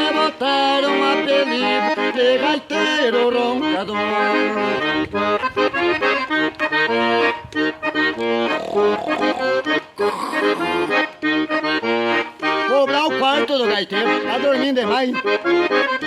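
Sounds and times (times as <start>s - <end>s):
accordion playing rhythmic chords: 0.0s - 16.0s.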